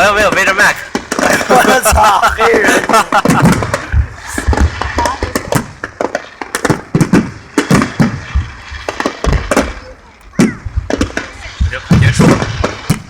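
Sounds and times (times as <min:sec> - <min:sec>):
fireworks cracks and bangs: 0:00.0 - 0:13.0
heavy firework booms: 0:00.0 - 0:13.0.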